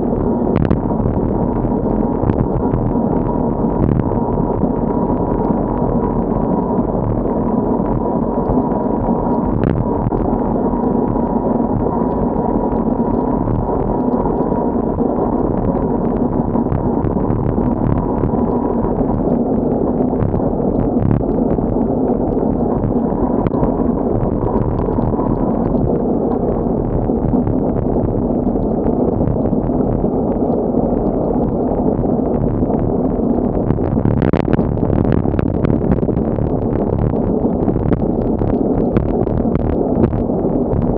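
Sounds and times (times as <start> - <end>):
wind buffeting microphone: 0.0 - 12.4, 14.8 - 30.4, 31.9 - 40.9.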